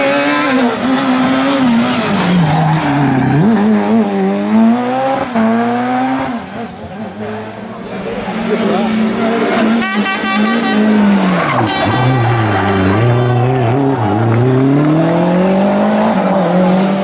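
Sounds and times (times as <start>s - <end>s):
rally car engine: 0.0s - 17.0s.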